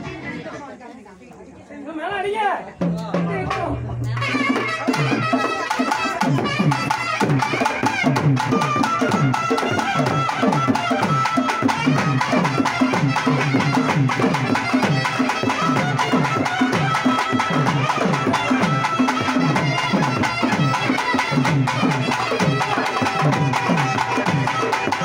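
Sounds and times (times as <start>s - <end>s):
fast driving drumming: 2.8s - 25.0s
wind instrument high notes: 3.5s - 25.0s.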